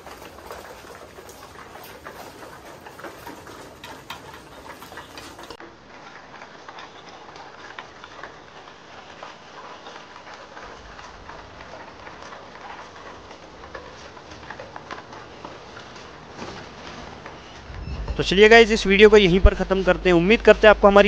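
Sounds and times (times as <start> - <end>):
pigeons pecking grain: 0.0 - 18.1.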